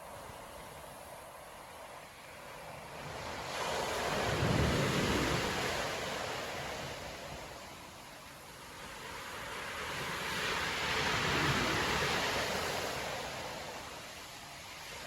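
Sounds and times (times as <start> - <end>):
wave breaking on beach: 0.0 - 15.0.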